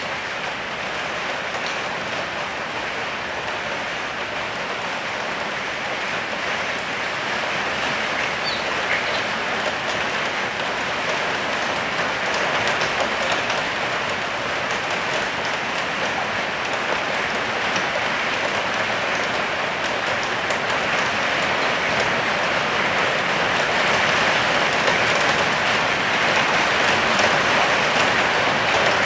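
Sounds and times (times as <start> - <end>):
rain spattering on surfaces: 0.0 - 29.0.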